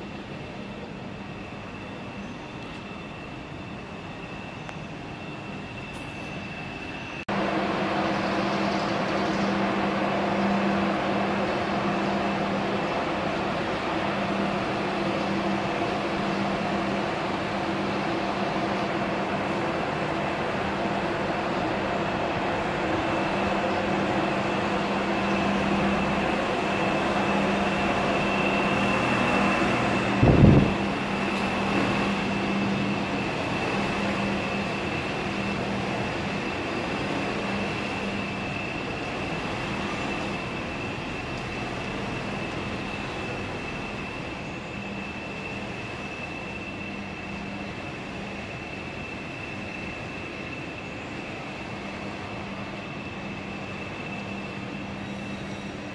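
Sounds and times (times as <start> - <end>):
high steady whine: 7.3 - 55.0.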